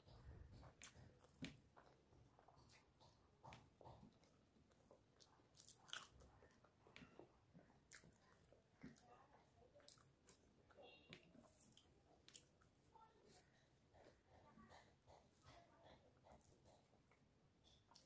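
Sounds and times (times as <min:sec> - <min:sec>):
faint chewing and mouth clicks: 0:00.0 - 0:18.0.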